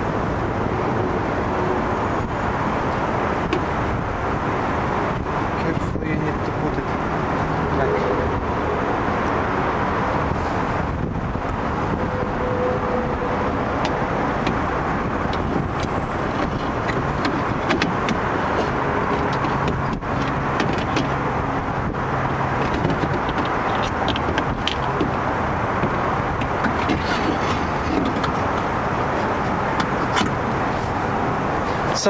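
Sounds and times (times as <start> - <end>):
steady rumble: 0.0 - 32.0.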